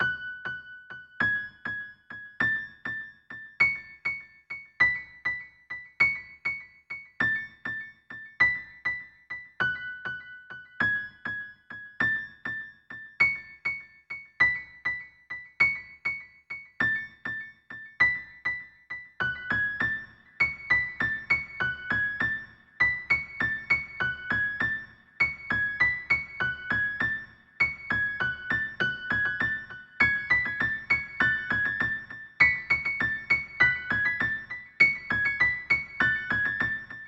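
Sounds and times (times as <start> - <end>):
piano-like keyboard melody: 0.0 - 37.0.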